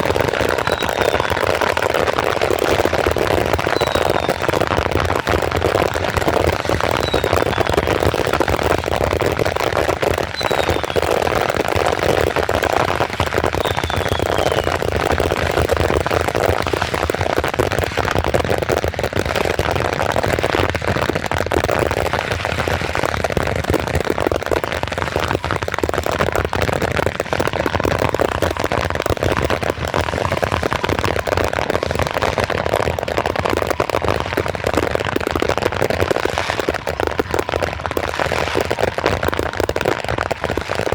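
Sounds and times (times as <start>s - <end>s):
falling firework whistles: 0.0s - 17.3s, 22.1s - 40.1s
fireworks crackling: 0.0s - 40.9s.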